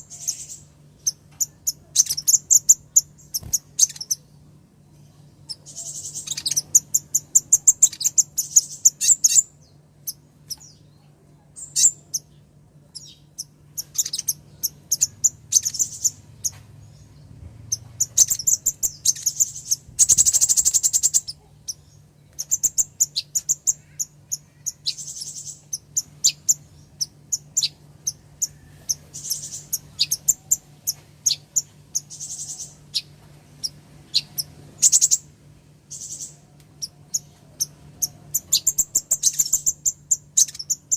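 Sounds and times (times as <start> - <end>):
bird chirps and trills: 0.0 - 40.9
faint low hum: 0.0 - 40.9.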